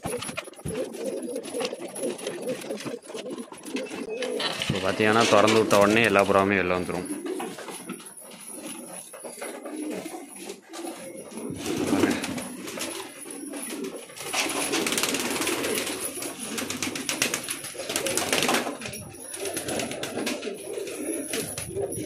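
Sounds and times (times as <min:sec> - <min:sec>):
pigeons cooing: 0:00.0 - 0:22.0
rustling: 0:00.0 - 0:22.0.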